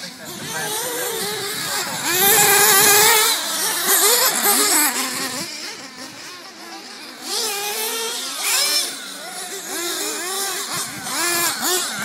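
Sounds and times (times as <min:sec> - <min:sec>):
remote-control car engines whining: 0:00.0 - 0:12.0.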